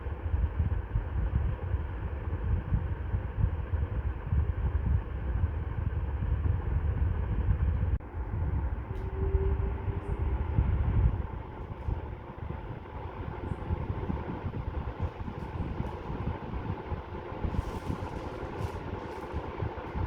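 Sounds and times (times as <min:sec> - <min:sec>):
ceiling fan running: 0:00.0 - 0:20.0.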